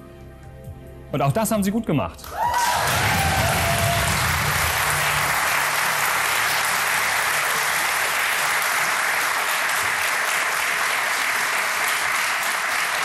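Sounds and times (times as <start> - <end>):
audience applauding: 2.2 - 13.0.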